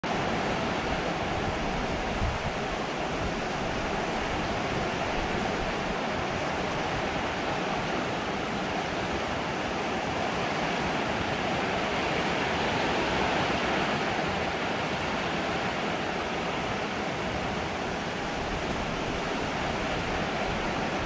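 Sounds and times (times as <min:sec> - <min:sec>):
heavy rain on metal awning: 0:00.0 - 0:21.0.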